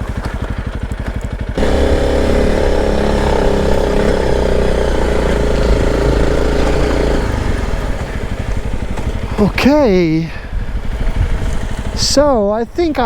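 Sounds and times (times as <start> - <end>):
motorcycle engine revving: 0.4 - 13.0.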